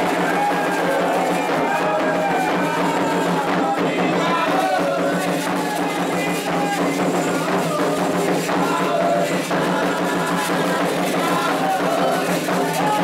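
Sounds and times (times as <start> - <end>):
drums and percussion: 0.0 - 13.0
voices singing a chant: 0.0 - 13.0.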